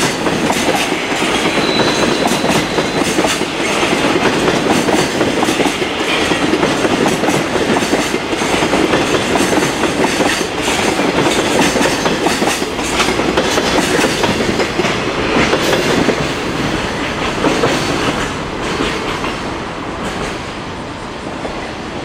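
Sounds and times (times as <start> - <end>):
freight train wheels clacking: 0.0 - 20.6.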